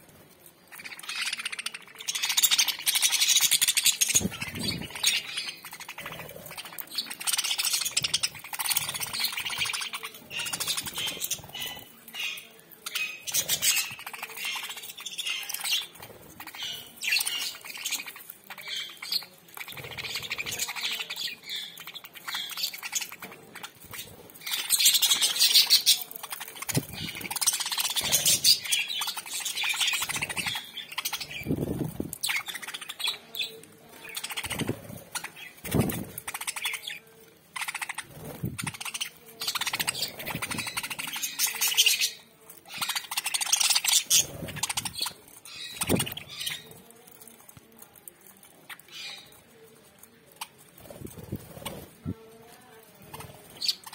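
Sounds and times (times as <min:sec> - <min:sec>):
budgerigars chattering and chirping: 0:00.7 - 0:46.8, 0:48.5 - 0:49.4, 0:53.0 - 0:53.9.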